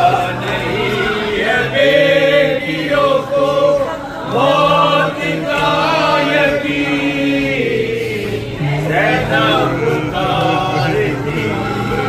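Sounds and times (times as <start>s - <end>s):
man singing a slow lament: 0.0s - 12.0s.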